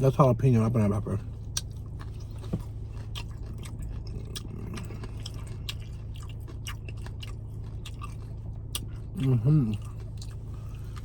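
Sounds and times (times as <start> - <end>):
steady low hum: 0.0 - 11.0
chewing with wet mouth clicks: 1.4 - 11.0.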